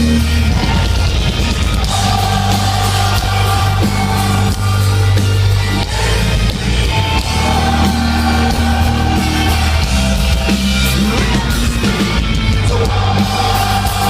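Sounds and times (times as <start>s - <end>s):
bass guitar: 0.0s - 14.0s
distorted guitars: 0.0s - 14.0s
drums: 0.0s - 14.0s.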